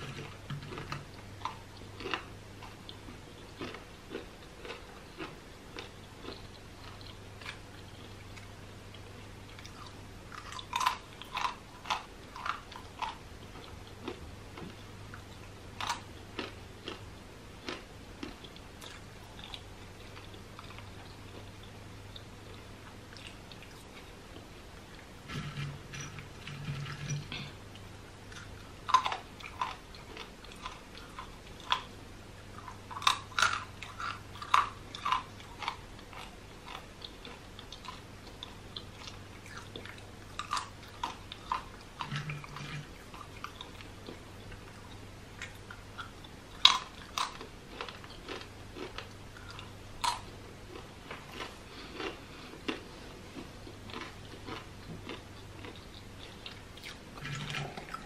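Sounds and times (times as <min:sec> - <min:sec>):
chewing: 0:00.0 - 0:58.0
faint low hum: 0:00.0 - 0:58.0.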